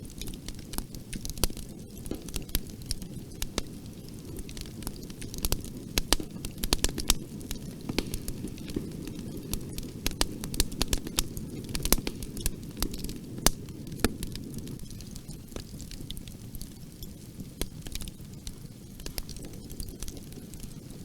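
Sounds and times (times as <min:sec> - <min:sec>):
bonfire crackling: 0:00.0 - 0:21.0.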